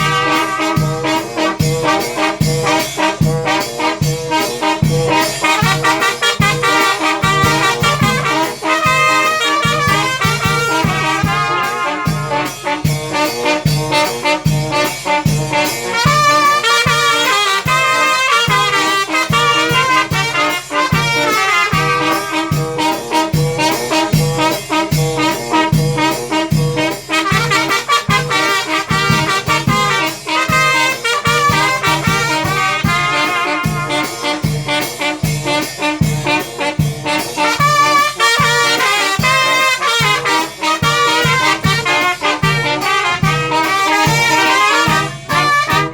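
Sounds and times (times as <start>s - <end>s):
trumpets and trombones melody: 0.0s - 45.9s.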